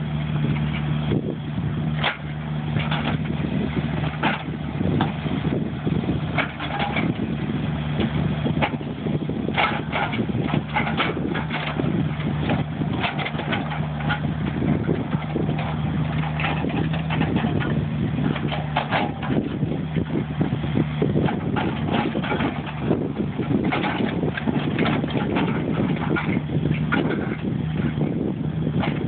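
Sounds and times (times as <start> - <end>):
diesel engine running: 0.0 - 29.0
knocks and scraping of soil: 0.0 - 29.0.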